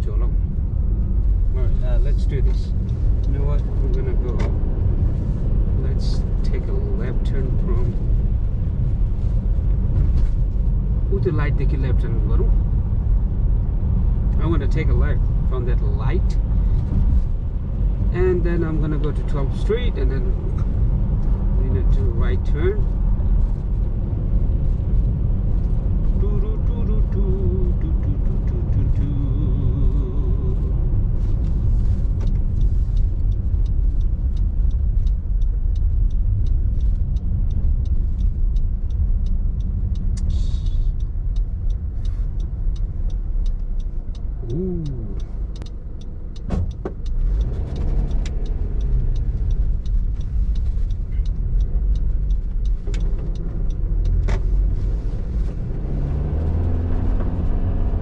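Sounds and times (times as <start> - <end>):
car engine and road rumble: 0.0 - 58.0
turn signal ticking: 0.0 - 58.0.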